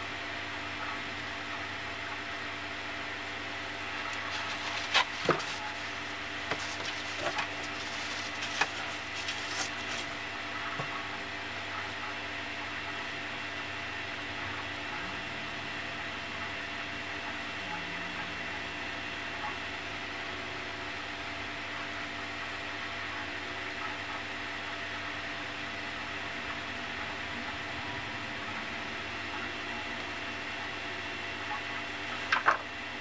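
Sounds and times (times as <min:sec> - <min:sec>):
workshop mechanical hum: 0:00.0 - 0:33.0.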